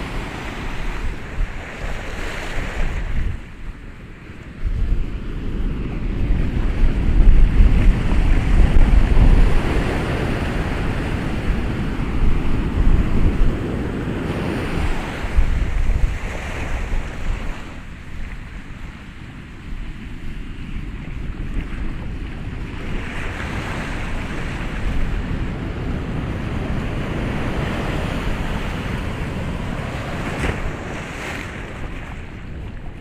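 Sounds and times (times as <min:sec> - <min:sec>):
waves breaking on shore: 0:00.0 - 0:33.0.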